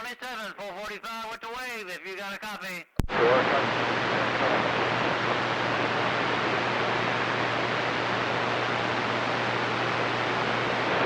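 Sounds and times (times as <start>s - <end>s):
radio static hiss: 1.9s - 11.0s.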